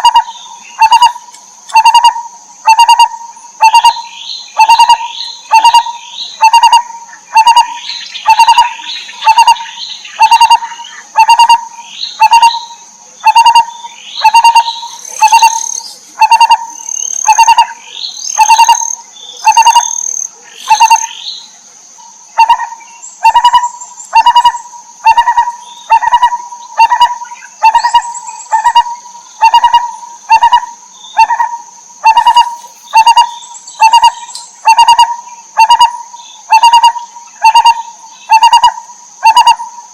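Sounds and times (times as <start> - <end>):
steady high-pitched whine: 0.0 - 39.9
higher bird chirps: 1.8 - 39.7.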